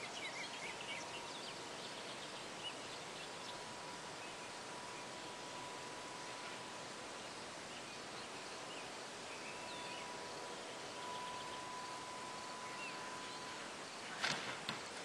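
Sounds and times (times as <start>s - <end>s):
faint bird chirps: 0.0s - 14.1s
steady outdoor hiss: 0.0s - 15.0s.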